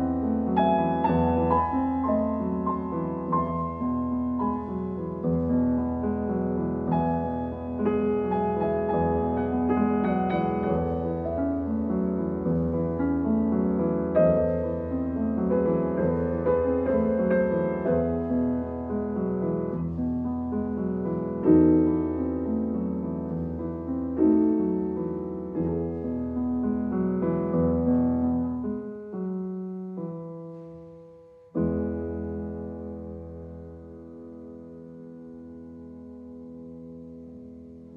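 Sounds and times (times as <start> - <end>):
piano playing slow chords: 0.0 - 37.9.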